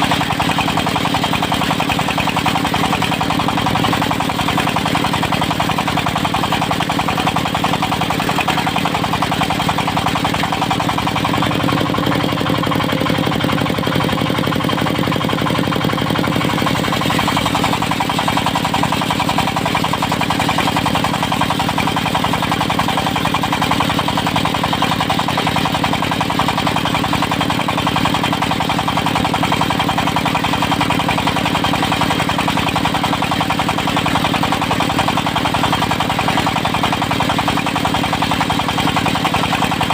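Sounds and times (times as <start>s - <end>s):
diesel engine of sawmill running: 0.0s - 39.9s.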